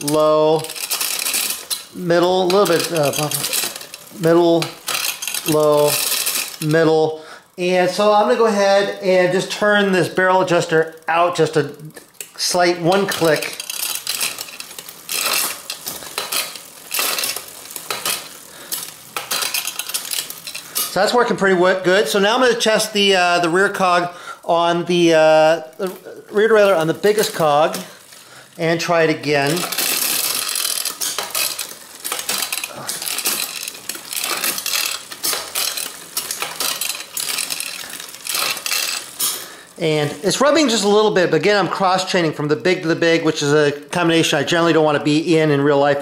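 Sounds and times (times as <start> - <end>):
bicycle chain rattling: 0.0 - 46.0
derailleur shifting chain: 0.0 - 46.0.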